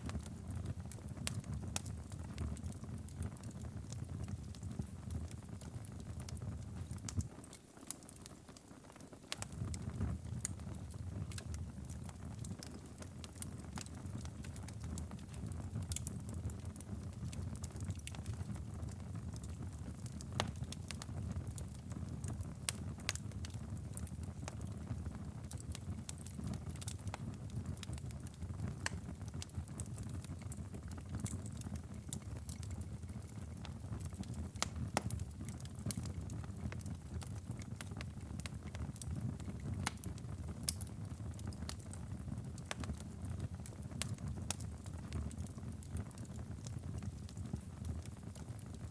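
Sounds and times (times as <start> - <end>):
low fire rumble: 0.0 - 7.4, 9.3 - 48.9
wood fire crackling and popping: 0.0 - 48.9.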